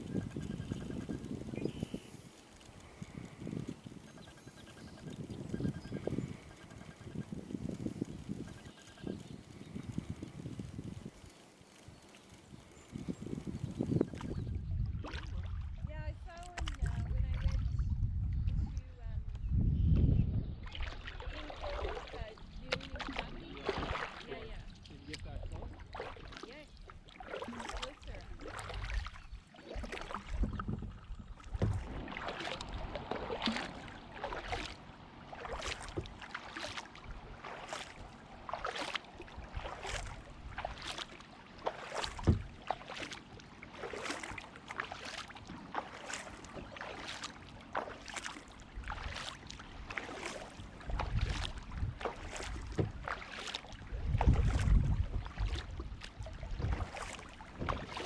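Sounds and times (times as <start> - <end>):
wind rumble on microphone: 0.0 - 11.3, 11.9 - 26.0, 26.6 - 34.7, 37.0 - 41.0, 41.9 - 42.7, 48.7 - 58.0
paddle splashing in water: 0.0 - 17.7, 20.6 - 58.0.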